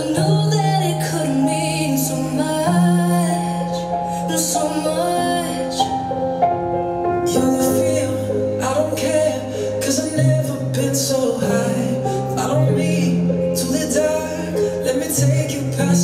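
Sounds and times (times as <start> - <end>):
slow song over sound system: 0.0 - 16.0.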